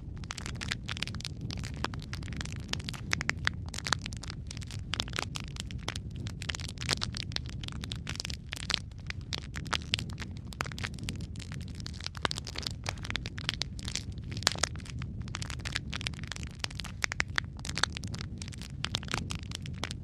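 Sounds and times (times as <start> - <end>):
fire crackling and rumbling: 0.0 - 20.0.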